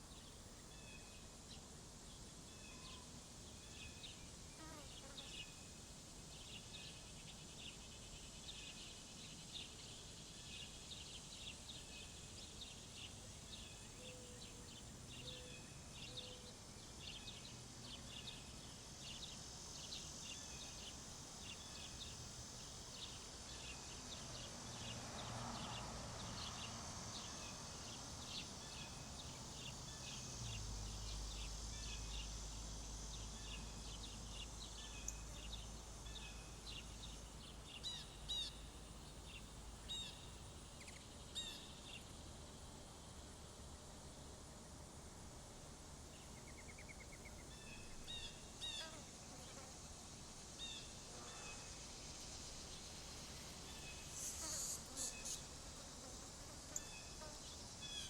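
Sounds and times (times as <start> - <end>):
insects hissing: 7.6 - 58.0.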